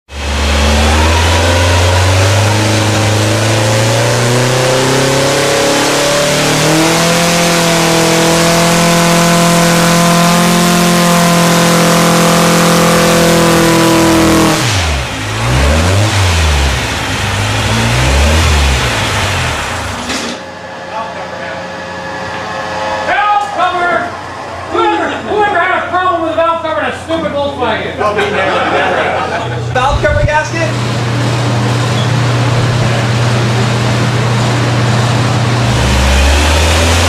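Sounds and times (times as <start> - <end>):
car engine revving: 0.1 - 24.8, 30.2 - 37.0.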